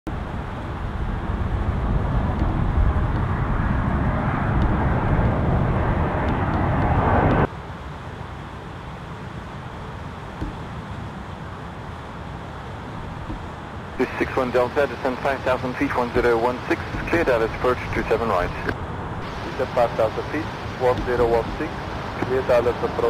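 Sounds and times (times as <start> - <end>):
jet airliner engine rumble: 0.1 - 23.0
steady background hum: 0.1 - 23.0.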